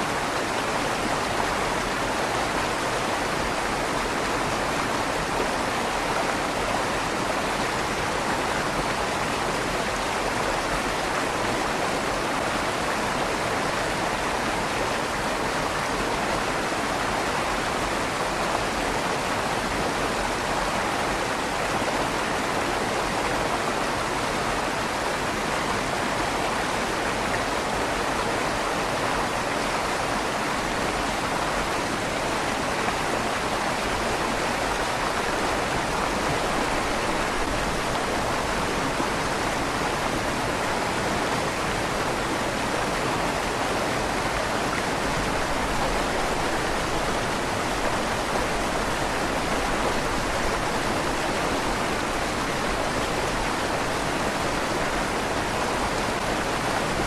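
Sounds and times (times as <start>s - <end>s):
river water rushing in a tunnel: 0.0s - 57.0s.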